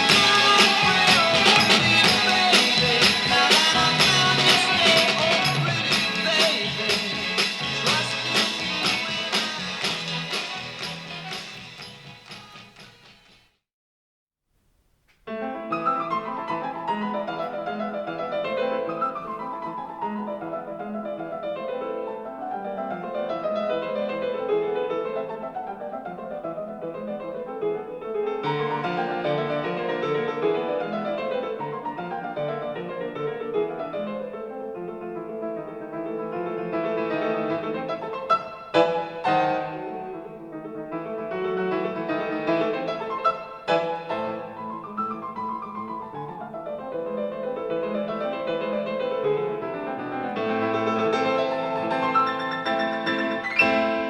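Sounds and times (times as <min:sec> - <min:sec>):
piano music through a speaker: 0:00.0 - 0:13.4, 0:15.2 - 0:54.0.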